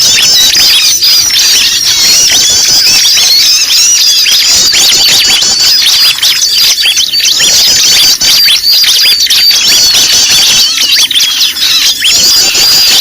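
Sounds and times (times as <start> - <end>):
many small birds chirping: 0.0 - 13.0.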